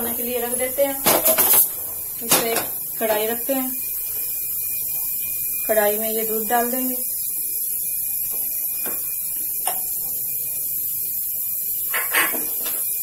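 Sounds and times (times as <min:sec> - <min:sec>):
background hiss and hum: 0:00.0 - 0:13.0.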